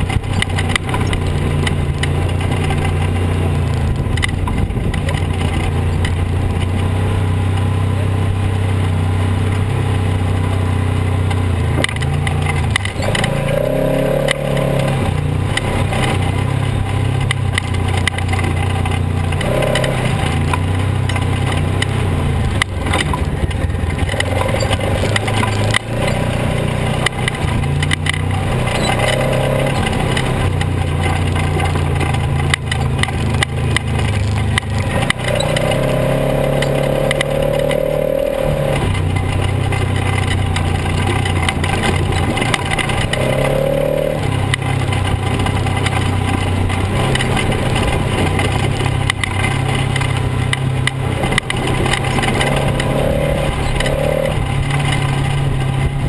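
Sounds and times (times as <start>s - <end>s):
chassis knocks and rattles: 0.0s - 6.8s, 11.3s - 56.0s
off-road vehicle engine running: 0.0s - 56.0s.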